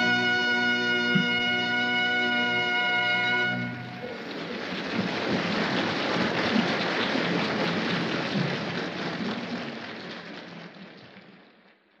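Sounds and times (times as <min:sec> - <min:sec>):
large audience applauding: 0:02.2 - 0:12.0.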